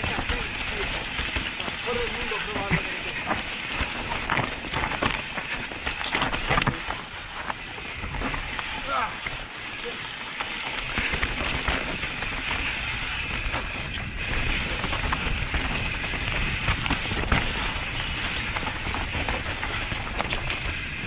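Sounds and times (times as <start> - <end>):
bike rattling and clicking: 0.0 - 21.0
bike tyres rushing over dirt: 0.0 - 21.0.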